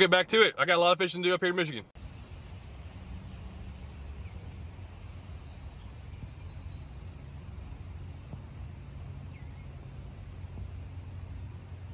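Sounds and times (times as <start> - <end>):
low outdoor rumble: 2.0 - 11.9.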